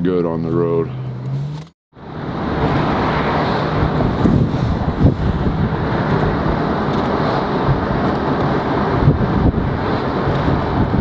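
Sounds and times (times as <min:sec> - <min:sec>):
cars driving at speed: 0:00.0 - 0:11.0.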